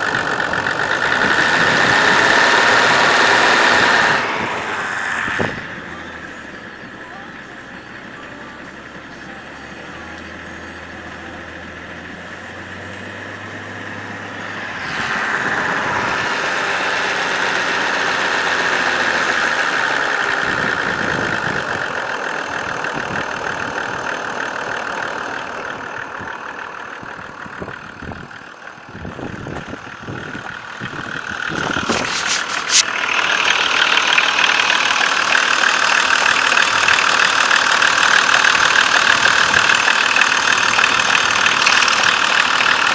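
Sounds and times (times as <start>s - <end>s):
diesel engine idling with knock: 0.0s - 42.9s.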